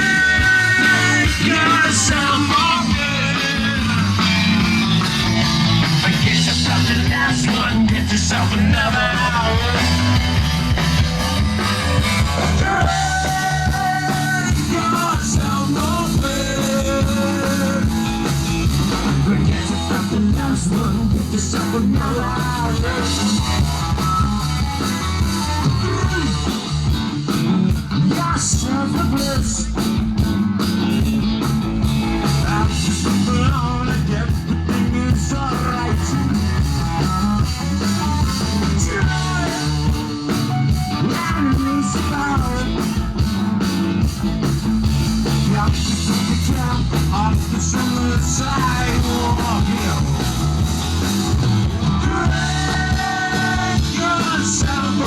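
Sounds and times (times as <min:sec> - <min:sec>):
live rock band with singer: 0:00.0 - 0:55.0.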